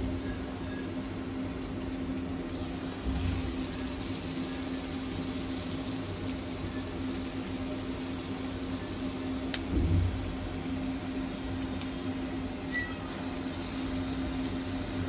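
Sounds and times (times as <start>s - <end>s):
cooktop humming: 0.0s - 15.0s
food sizzling in hot oil: 0.0s - 15.0s.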